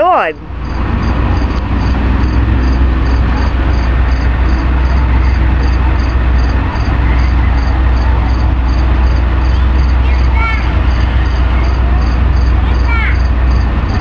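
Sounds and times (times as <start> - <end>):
steady low rumble: 0.0 - 14.0
insect chirping: 0.4 - 14.0.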